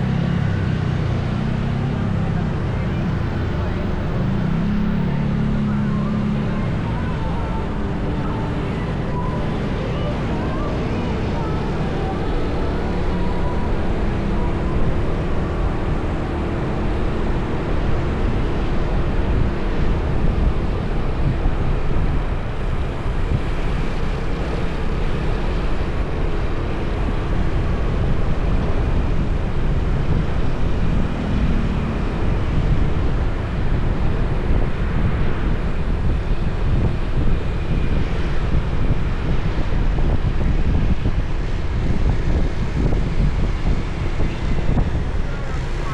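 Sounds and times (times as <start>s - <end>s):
road traffic rumble: 0.0s - 45.9s
wind buffeting microphone: 0.0s - 45.9s.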